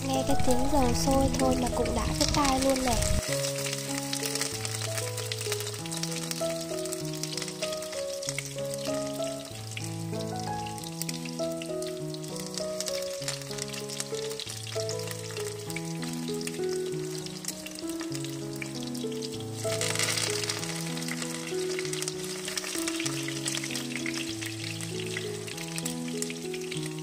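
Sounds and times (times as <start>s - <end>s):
background music: 0.0s - 27.0s
oil sizzling and crackling: 0.0s - 27.0s.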